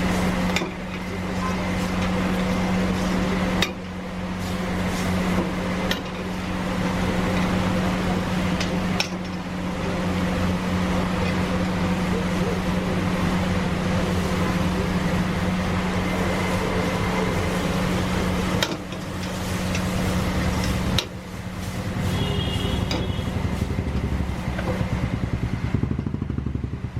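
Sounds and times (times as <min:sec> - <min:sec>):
steady mechanical hum: 0:00.0 - 0:26.9.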